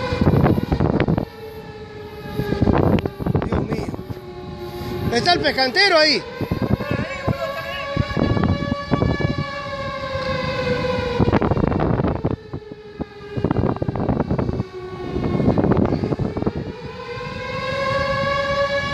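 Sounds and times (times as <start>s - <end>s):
alarm siren steady tone: 0.0s - 18.9s.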